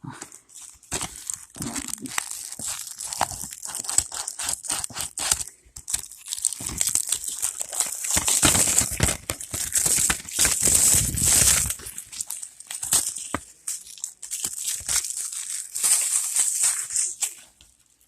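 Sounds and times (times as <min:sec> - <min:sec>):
plastic wrapping crinkling: 0:00.3 - 0:18.0.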